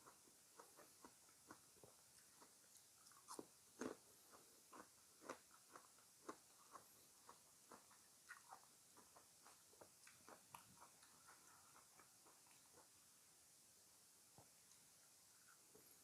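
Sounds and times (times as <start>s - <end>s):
chewing and biting fruit: 0.0s - 13.0s.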